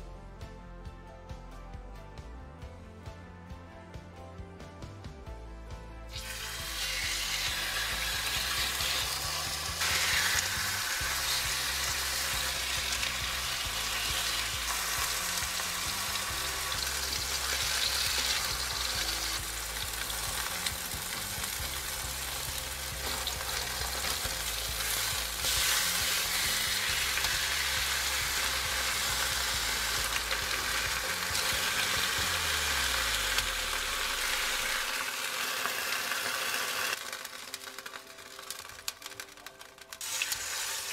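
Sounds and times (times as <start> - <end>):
meat sizzling in hot oil: 6.1 - 40.9.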